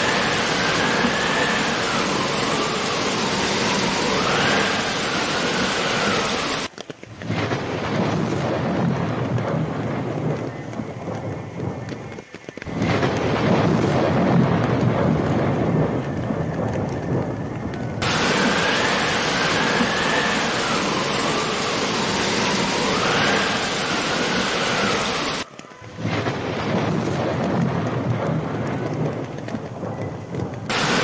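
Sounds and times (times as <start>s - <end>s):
heavy rain hissing: 0.0s - 31.0s
rolling thunder rumble: 0.0s - 31.0s.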